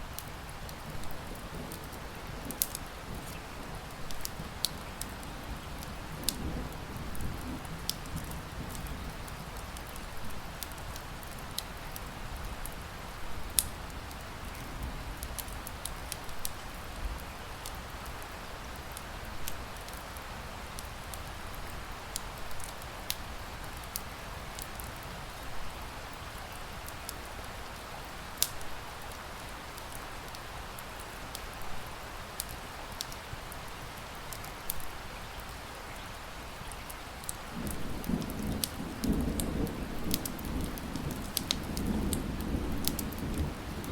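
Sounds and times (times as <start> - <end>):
steady rain hiss: 0.0 - 43.9
wood fire crackling: 0.0 - 43.9.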